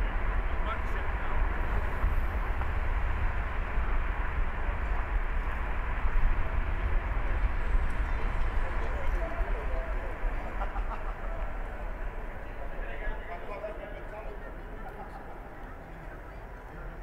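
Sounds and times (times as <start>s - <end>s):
car driving on street: 0.0s - 17.0s.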